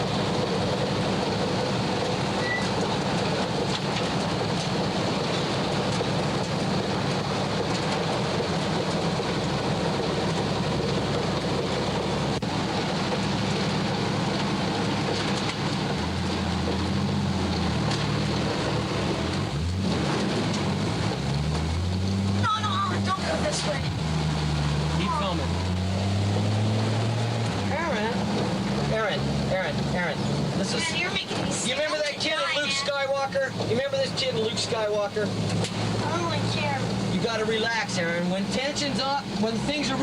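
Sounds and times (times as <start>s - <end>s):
car engine humming: 0.0s - 40.0s
hurricane wind and rain: 0.0s - 40.0s.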